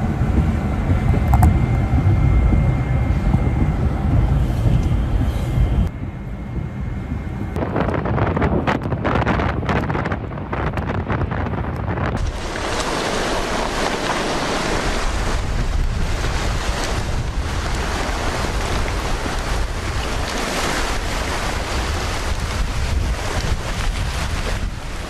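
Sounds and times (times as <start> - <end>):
steady rushing noise: 0.0 - 25.0
wind buffeting microphone: 0.0 - 25.0.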